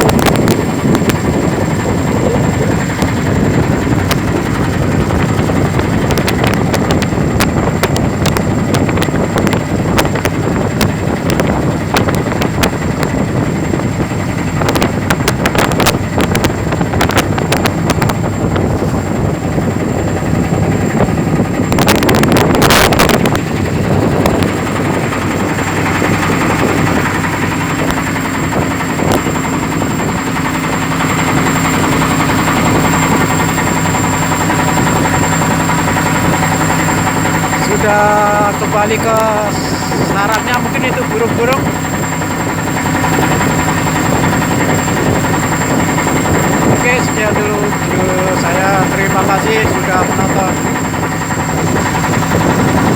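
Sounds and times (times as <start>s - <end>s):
boat engine running: 0.0s - 52.9s
rush of noise: 0.0s - 52.9s.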